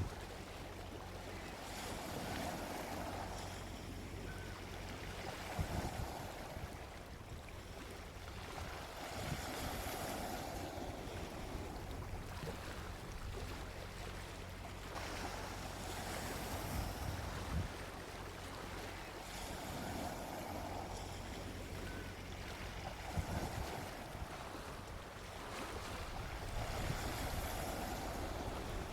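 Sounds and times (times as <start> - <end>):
gentle ocean waves breaking: 0.0 - 28.9.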